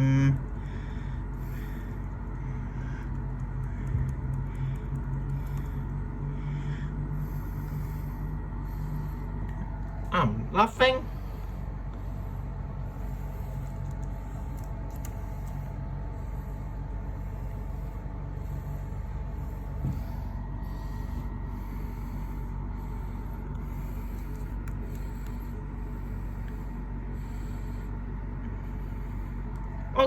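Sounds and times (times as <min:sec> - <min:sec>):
faint steady tones: 0:00.0 - 0:30.0
low background hum and rumble: 0:00.0 - 0:30.0.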